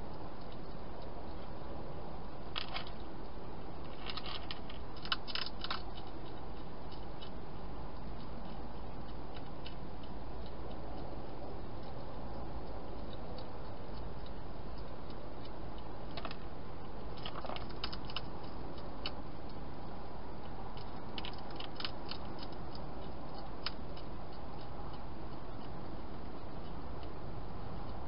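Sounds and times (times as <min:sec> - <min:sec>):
hedgehog chewing food: 0:00.0 - 0:28.0
sharp crunching clicks: 0:02.5 - 0:19.6, 0:20.4 - 0:27.2.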